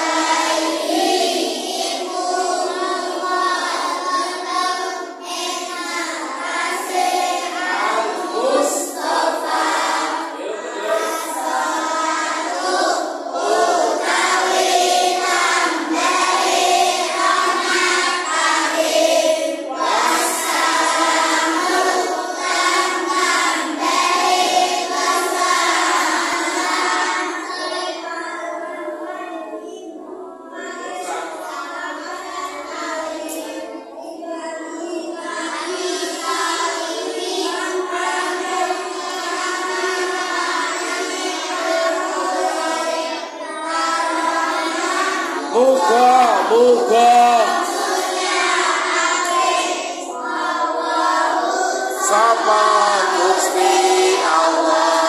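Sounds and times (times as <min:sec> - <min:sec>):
children chanting in unison: 0:00.0 - 0:55.0.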